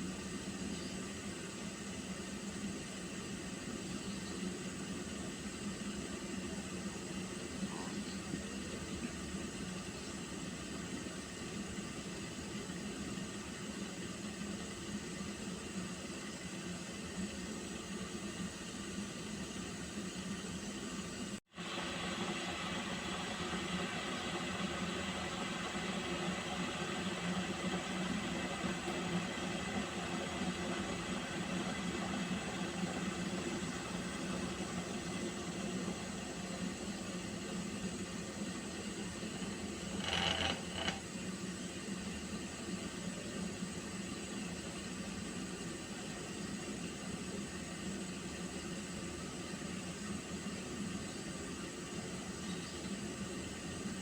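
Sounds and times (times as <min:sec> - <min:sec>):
water heating in pot: 0:00.0 - 0:54.0.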